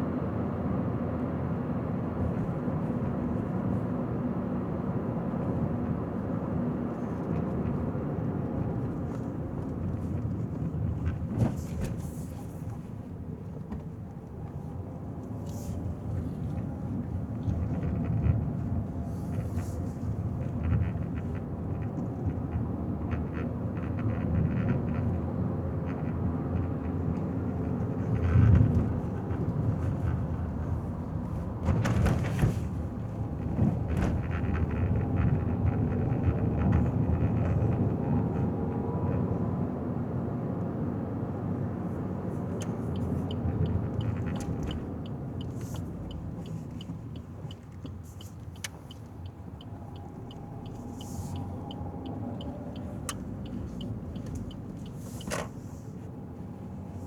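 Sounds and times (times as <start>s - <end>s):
car road and engine noise: 0.0s - 57.0s
passing traffic: 0.0s - 57.0s.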